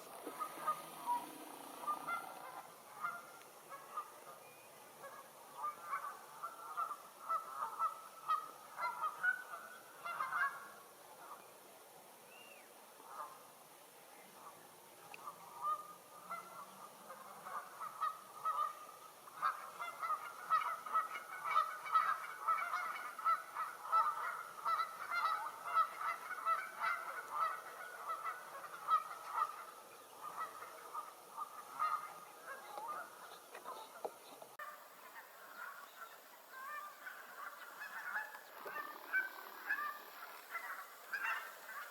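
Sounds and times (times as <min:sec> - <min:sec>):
geese honking: 0:00.0 - 0:04.4, 0:05.0 - 0:11.4, 0:15.2 - 0:41.9.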